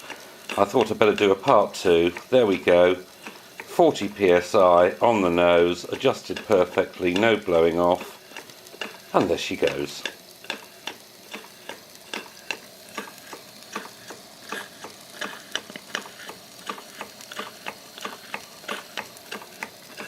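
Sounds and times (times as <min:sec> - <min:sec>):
steam engine ticking: 0:00.0 - 0:20.0.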